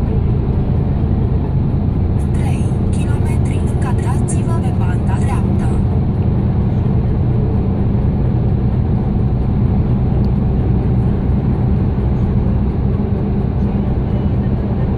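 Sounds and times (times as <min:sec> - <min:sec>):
engine and road drone in cab: 0:00.0 - 0:14.9.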